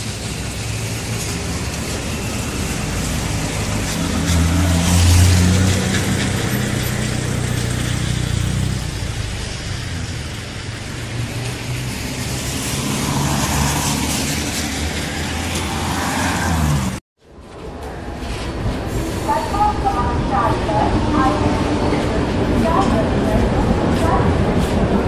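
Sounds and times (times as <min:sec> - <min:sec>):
traffic noise: 0:00.0 - 0:25.0
vehicle engine hum: 0:00.0 - 0:25.0.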